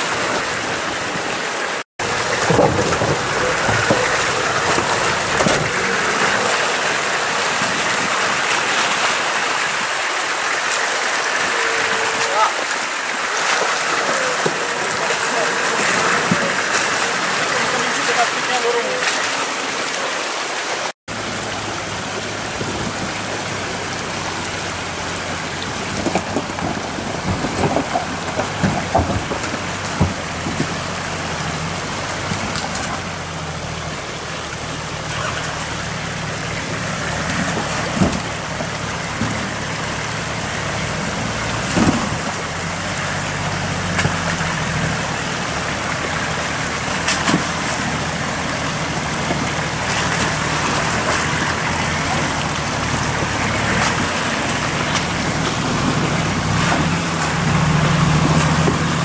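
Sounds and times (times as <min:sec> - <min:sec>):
suv engines at low revs: 0:00.0 - 0:12.2, 0:21.1 - 0:59.0
rushing mountain stream: 0:00.0 - 0:59.0
splashes: 0:00.0 - 0:59.0.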